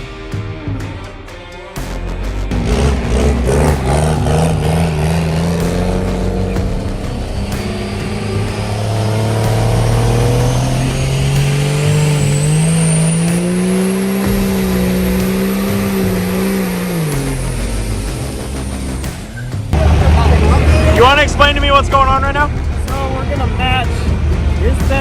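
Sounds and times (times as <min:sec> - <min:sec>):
truck engine revving: 0:01.8 - 0:25.0.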